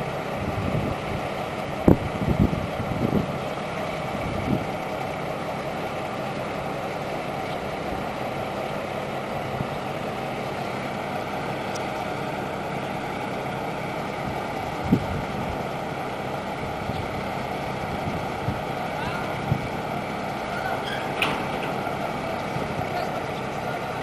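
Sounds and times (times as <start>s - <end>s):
excavator engine drone: 0.0s - 24.0s.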